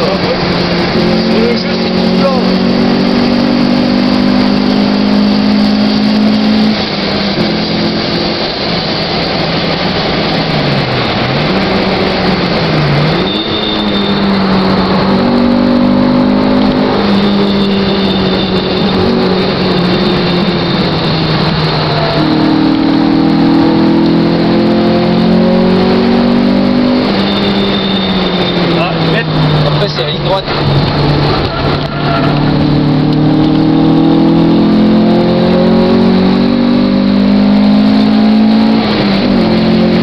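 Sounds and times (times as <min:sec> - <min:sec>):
car engine running: 0:00.0 - 0:40.0.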